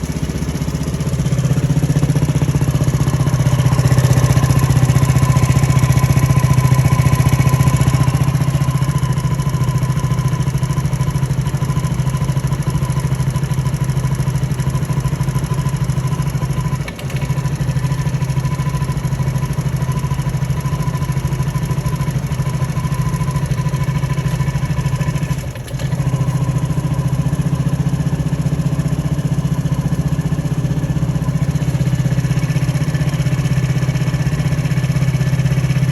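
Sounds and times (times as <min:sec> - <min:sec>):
scooter engine idling: 0:00.0 - 0:35.9.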